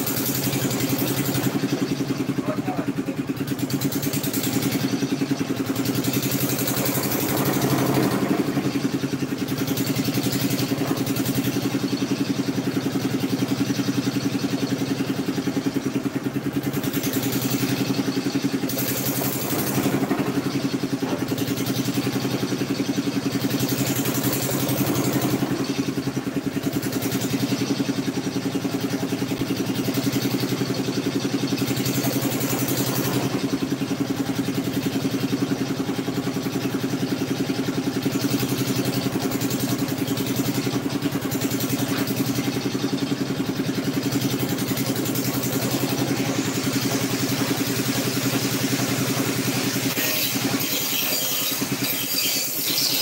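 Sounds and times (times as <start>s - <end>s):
road roller engine idling: 0.0s - 53.0s.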